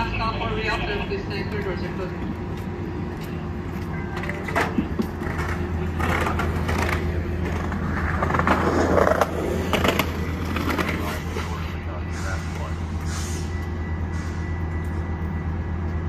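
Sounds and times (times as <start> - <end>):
diesel train idling: 0.0 - 16.0.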